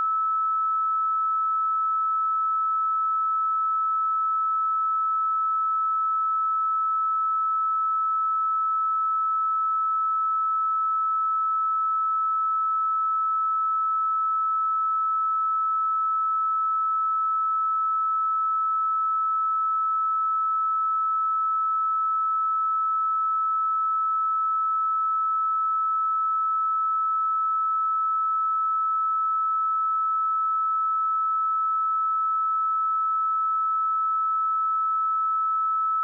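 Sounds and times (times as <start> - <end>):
sine-wave test tone: 0.0 - 36.0.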